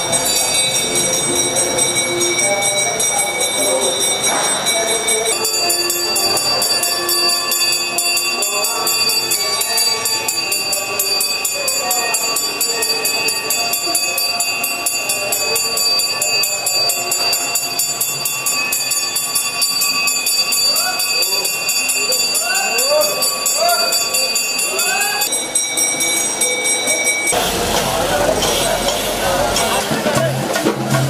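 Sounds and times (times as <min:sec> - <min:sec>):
faint voices: 0:00.0 - 0:31.0
temple bells ringing rapidly: 0:00.0 - 0:31.0.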